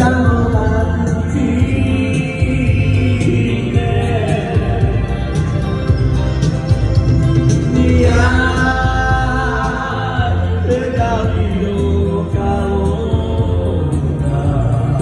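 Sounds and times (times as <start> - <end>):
man singing into a microphone: 0.0 - 5.7, 7.6 - 15.0
electric bass: 0.0 - 15.0
electronic keyboard: 0.0 - 15.0.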